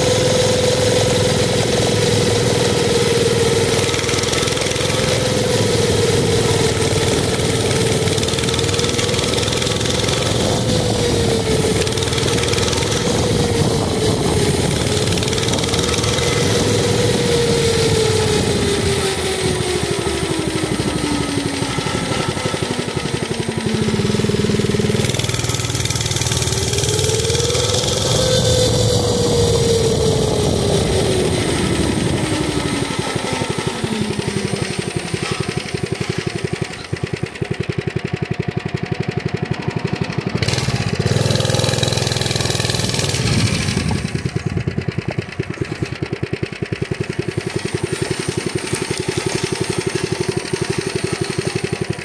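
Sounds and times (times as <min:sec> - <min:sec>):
mini bike engine revving: 0:00.0 - 0:52.0.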